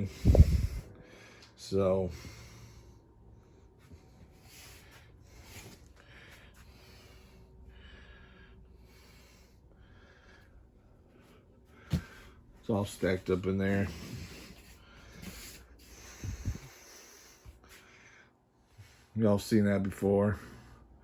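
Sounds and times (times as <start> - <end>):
faint breathing: 0.0 - 12.6, 13.6 - 19.2
low steady hum: 0.0 - 21.0.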